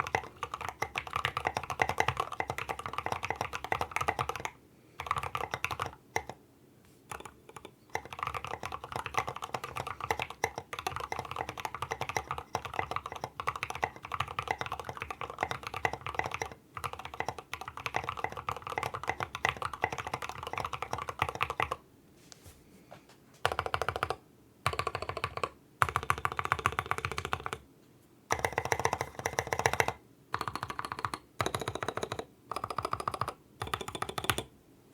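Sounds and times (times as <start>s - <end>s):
mechanical keyboard typing: 0.0s - 6.4s, 7.1s - 21.8s, 23.4s - 27.6s, 28.3s - 34.5s.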